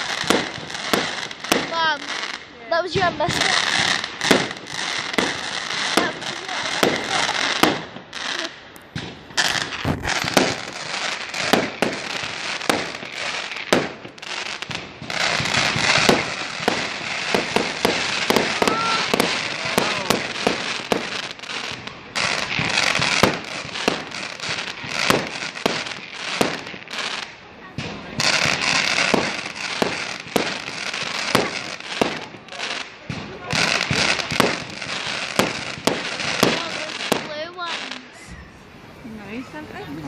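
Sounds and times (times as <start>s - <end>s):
fireworks bangs and crackling: 0.0s - 40.0s.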